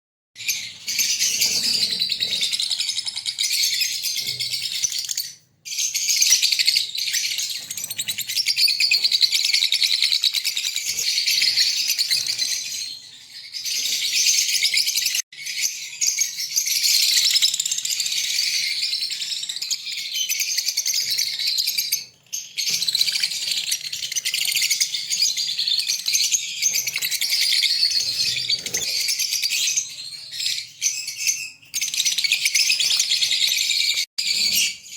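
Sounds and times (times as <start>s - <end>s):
lovebirds chattering and chirping: 0.4s - 17.3s, 19.8s - 34.9s.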